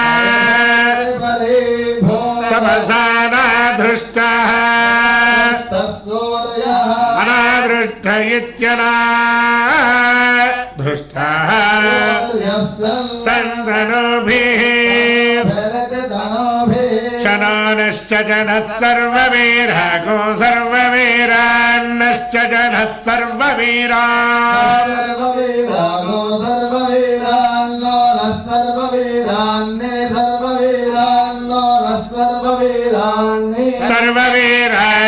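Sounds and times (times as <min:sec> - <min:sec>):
man chanting: 0:00.0 - 0:35.0.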